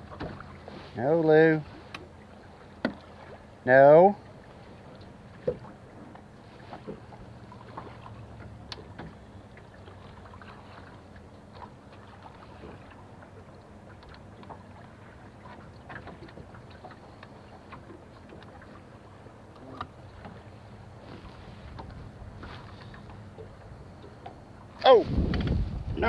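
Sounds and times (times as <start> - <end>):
faint water and wind: 0.0 - 26.0
low steady hum: 0.0 - 26.0.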